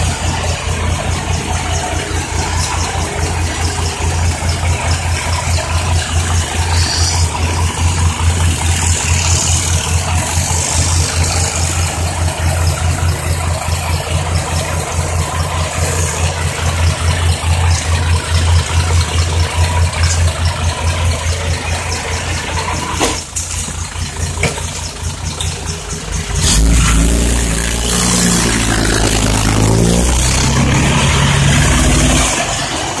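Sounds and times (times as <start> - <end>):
diesel engine idling: 0.0 - 33.0
truck engine revving: 0.0 - 33.0.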